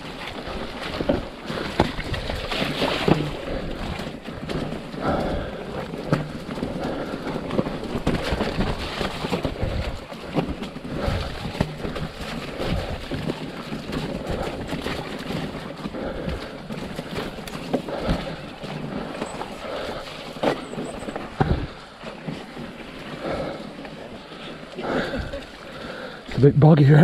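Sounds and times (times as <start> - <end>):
bike knocking and rattling: 0.0 - 27.0
bike tyres rumbling over stones: 0.0 - 27.0.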